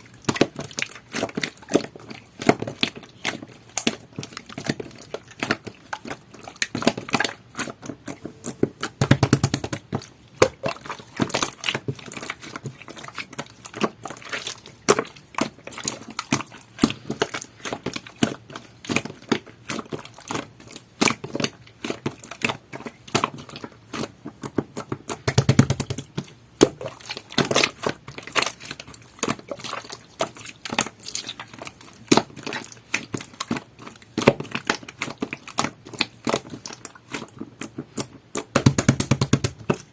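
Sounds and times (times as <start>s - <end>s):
heavy slime squelches: 0.0s - 38.6s
slime squished by hand: 0.0s - 39.9s.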